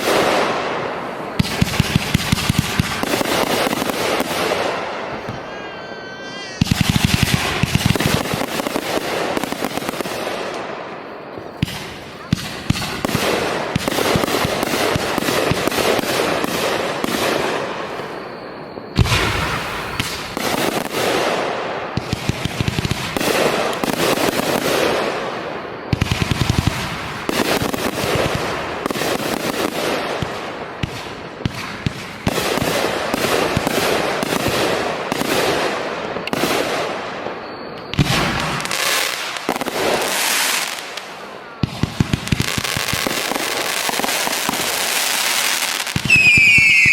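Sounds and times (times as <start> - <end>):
fireworks booms: 0.0 - 46.9
fireworks crackling and popping: 0.0 - 46.9.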